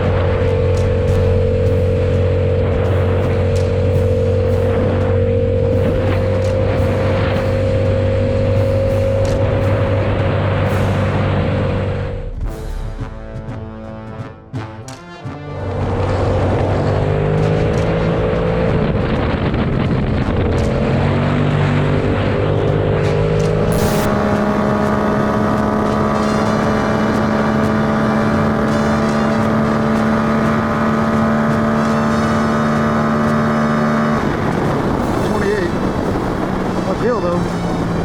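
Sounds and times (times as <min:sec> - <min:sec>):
vehicle engine running: 0:00.0 - 0:13.1, 0:15.4 - 0:38.0.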